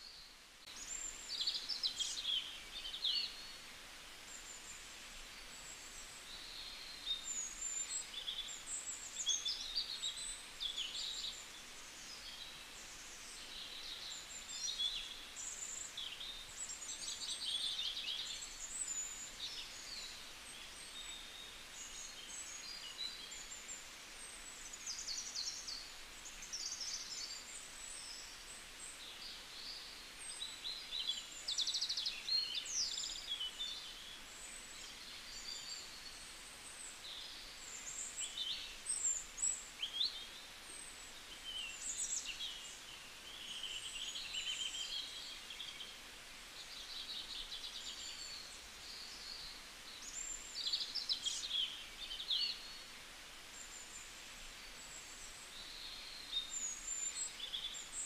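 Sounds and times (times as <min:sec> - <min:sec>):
small birds chirping and trilling: 0:00.0 - 0:58.0.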